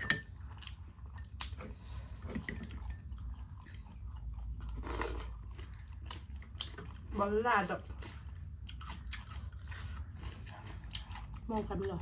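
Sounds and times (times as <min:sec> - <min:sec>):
chewing and mouth sounds: 0:00.3 - 0:01.8, 0:02.5 - 0:12.0.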